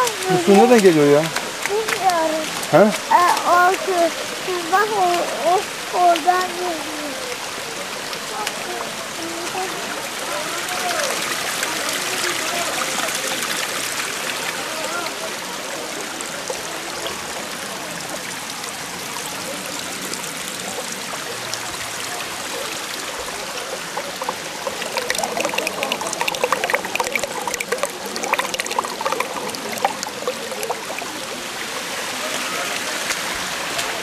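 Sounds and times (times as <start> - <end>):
stream running over rocks: 0.0 - 34.0
water splashes: 0.0 - 34.0.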